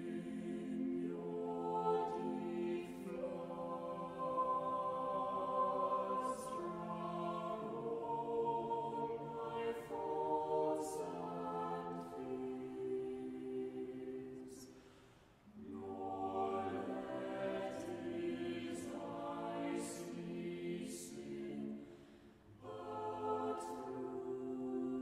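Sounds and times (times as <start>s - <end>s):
choir singing sustained phrases: 0.0s - 25.0s.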